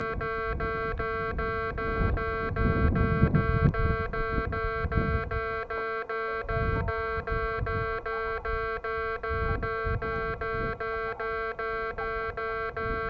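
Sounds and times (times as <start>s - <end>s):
level-crossing alarm clanging: 0.0s - 13.0s.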